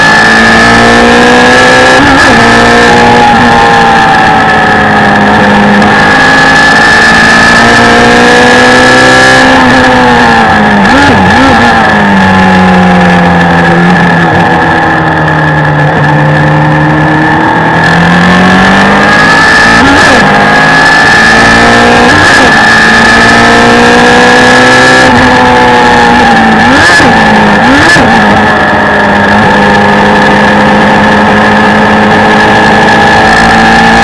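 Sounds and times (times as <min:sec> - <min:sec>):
gear changes: 0:00.0 - 0:34.0
race car engine revving: 0:00.0 - 0:34.0.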